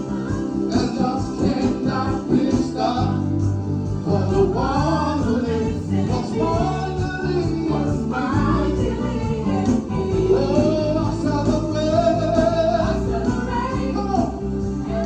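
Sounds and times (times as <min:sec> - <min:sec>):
live band playing gospel: 0:00.0 - 0:15.0
person singing: 0:00.0 - 0:15.0
steady bass line: 0:00.0 - 0:15.0.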